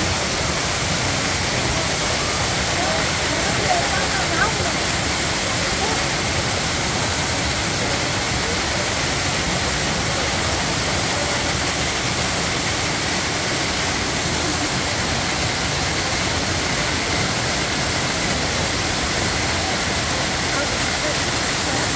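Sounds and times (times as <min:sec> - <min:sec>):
waterfall pouring onto rocks: 0:00.0 - 0:21.9.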